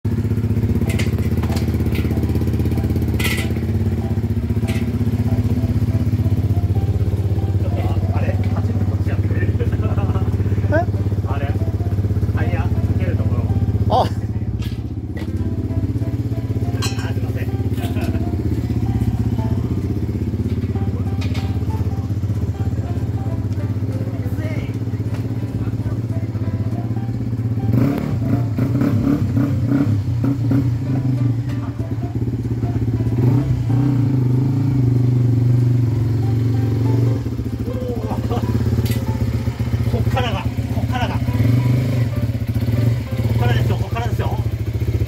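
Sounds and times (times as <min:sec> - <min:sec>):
motorcycle engine idling: 0:00.1 - 0:45.0.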